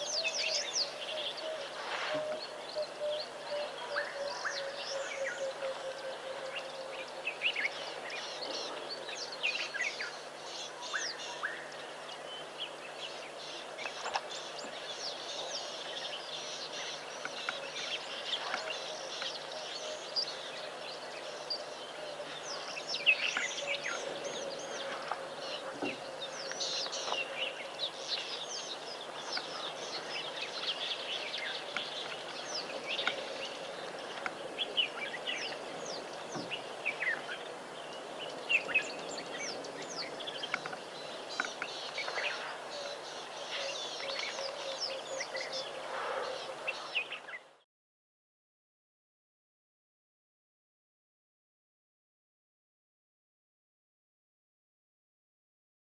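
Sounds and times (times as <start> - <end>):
birds chirping and trilling: 0.0 - 47.6.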